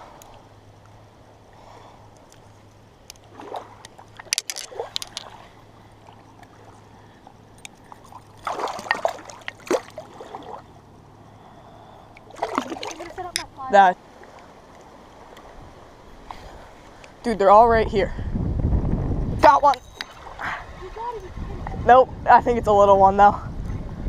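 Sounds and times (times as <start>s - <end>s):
water splashing and sloshing: 0.0s - 17.3s, 19.7s - 21.9s.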